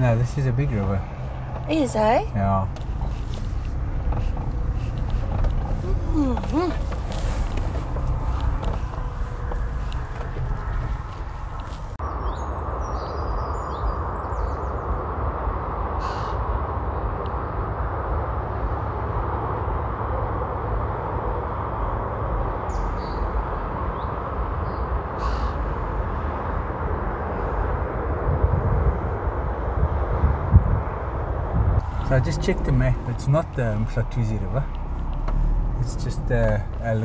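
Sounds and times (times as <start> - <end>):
steady outdoor hiss: 0.0 - 30.2, 30.8 - 37.0
wind buffeting microphone: 0.0 - 37.0.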